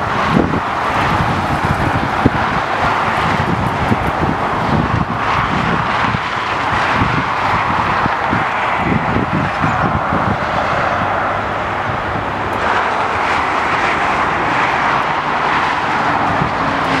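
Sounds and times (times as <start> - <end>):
fast freeway traffic: 0.0 - 17.0.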